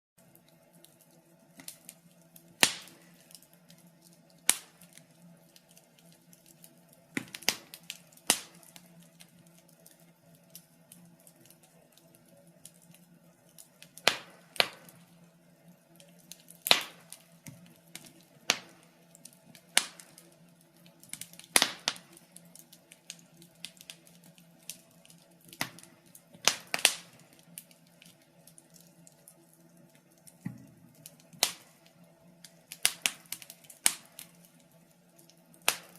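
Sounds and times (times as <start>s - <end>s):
wood fire crackling: 0.2s - 35.9s.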